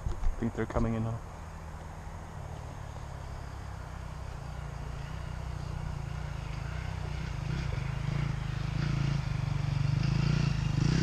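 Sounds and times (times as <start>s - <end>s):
dirt bike engines: 0.0s - 11.0s.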